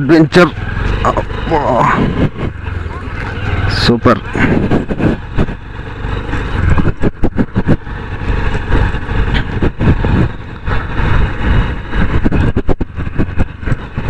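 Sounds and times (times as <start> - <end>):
motorcycle engine running: 0.0 - 14.0
wind buffeting microphone: 0.4 - 14.0.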